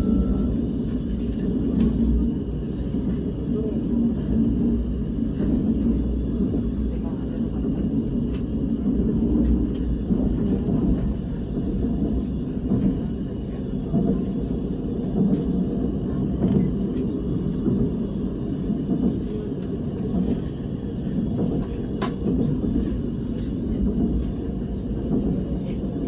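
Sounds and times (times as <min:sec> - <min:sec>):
train cabin low rumble: 0:00.0 - 0:26.0.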